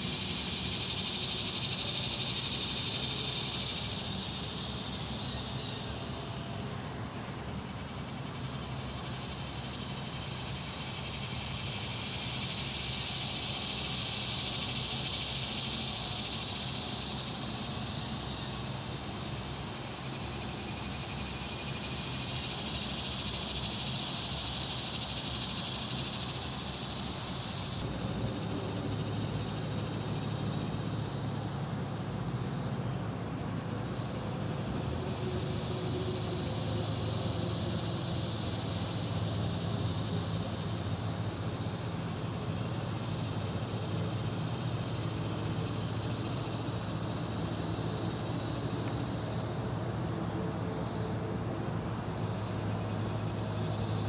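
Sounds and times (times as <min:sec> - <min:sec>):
high hiss: 0:00.0 - 0:54.0.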